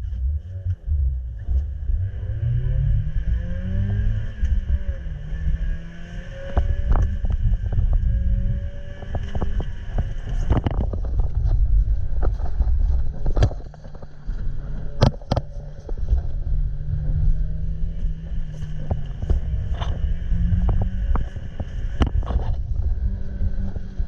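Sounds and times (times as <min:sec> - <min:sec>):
car engine under load: 0:00.0 - 0:24.0
wind and road noise: 0:00.0 - 0:24.0.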